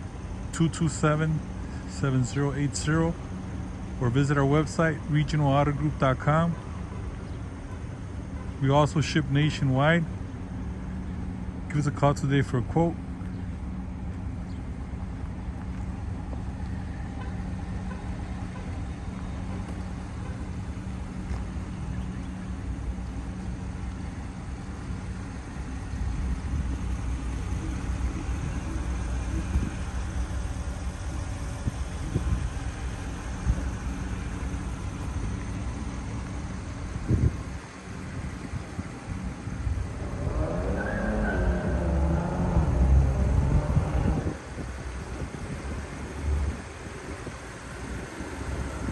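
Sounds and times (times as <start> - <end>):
pickup truck engine idling: 0.0 - 48.9.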